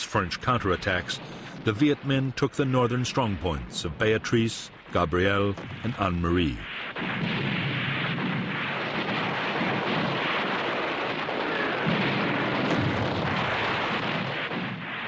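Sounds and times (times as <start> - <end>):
artillery explosions: 0.0 - 15.0
gunfire: 0.6 - 4.0, 4.7 - 15.0.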